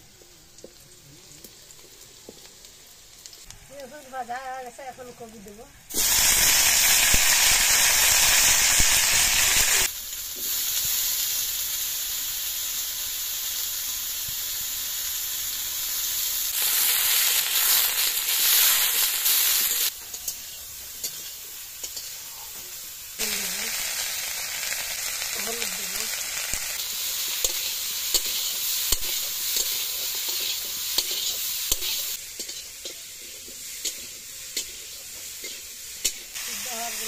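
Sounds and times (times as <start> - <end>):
cauliflower sizzling in hot oil: 0.0 - 37.0.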